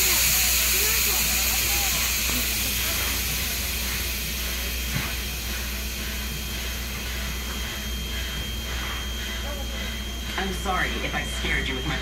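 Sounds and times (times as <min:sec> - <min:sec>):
train ride hiss and hum: 0:00.0 - 0:12.0.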